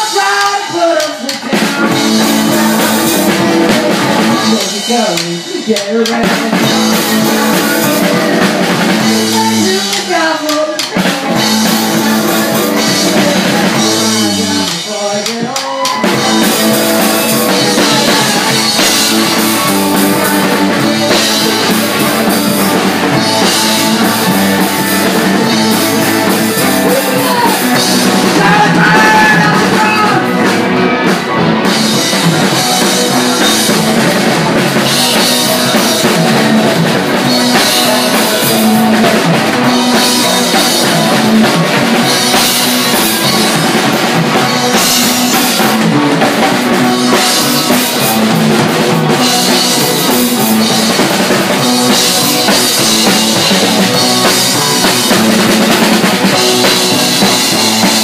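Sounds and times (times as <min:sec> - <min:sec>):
drum kit with cymbals: 0:00.0 - 0:58.0
electric guitars: 0:00.0 - 0:58.0
live rock band playing: 0:00.0 - 0:58.0.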